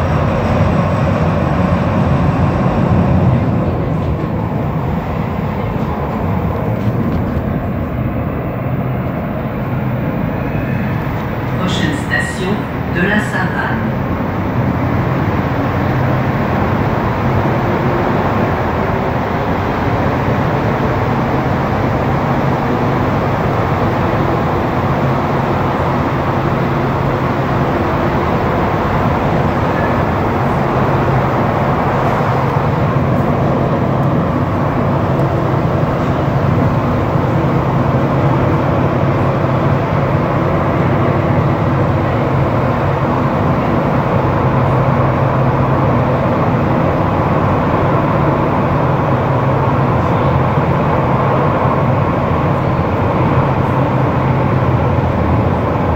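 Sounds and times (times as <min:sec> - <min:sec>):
metro car running noise: 0:00.0 - 0:55.9.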